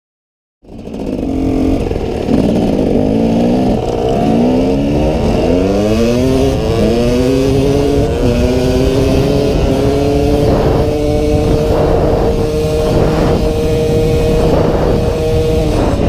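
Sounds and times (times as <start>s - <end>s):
dirt bike engine accelerating: 0.6s - 16.0s.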